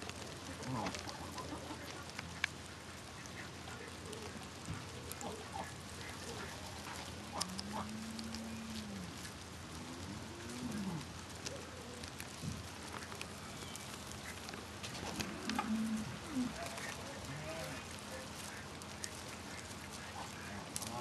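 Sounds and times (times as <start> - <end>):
guinea pigs munching greens: 0.0 - 21.0
ducks calling: 0.3 - 9.4, 10.2 - 21.0.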